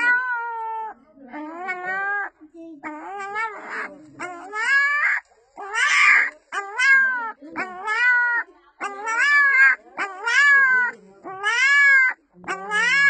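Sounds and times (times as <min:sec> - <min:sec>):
puppy crying: 0:00.0 - 0:13.0.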